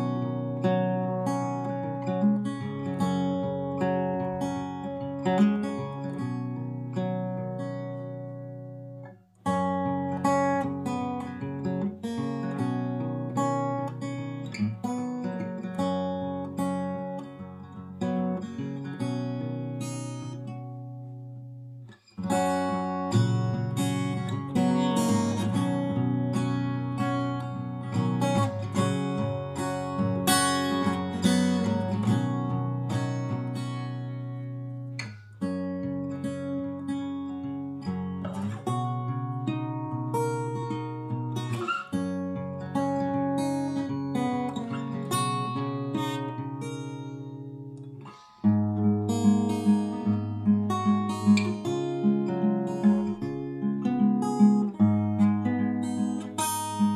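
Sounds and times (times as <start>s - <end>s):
acoustic guitar music: 0.0s - 56.9s.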